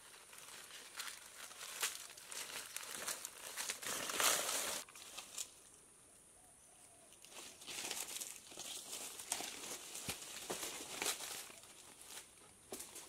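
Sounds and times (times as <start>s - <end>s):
leaves and twigs rustling: 0.0s - 5.9s, 6.8s - 13.0s.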